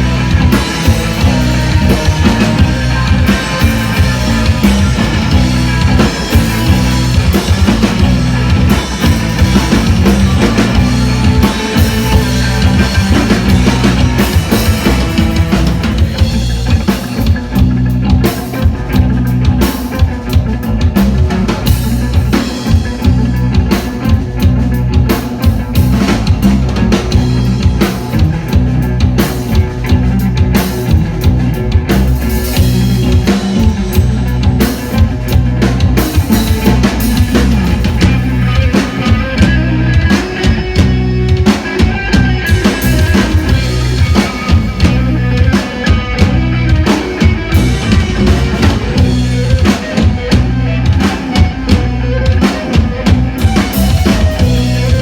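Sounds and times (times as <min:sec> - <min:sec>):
drum kit beat: 0:00.0 - 0:55.0
heavy bass and guitar: 0:00.0 - 0:55.0
rock band playing live: 0:00.0 - 0:55.0.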